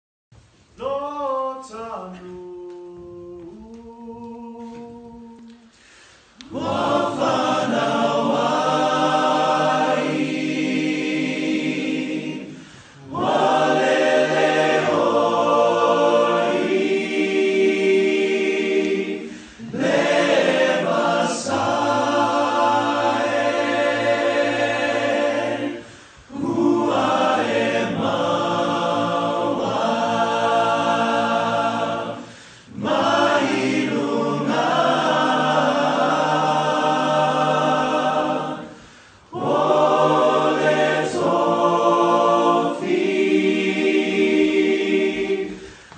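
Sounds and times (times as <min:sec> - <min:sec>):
choir singing in harmony: 0:03.2 - 0:45.9.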